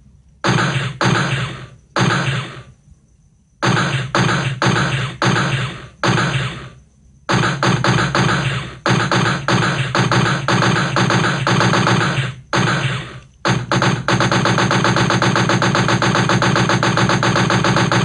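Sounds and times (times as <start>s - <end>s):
automatic gunfire: 0.4s - 2.7s, 3.6s - 18.0s.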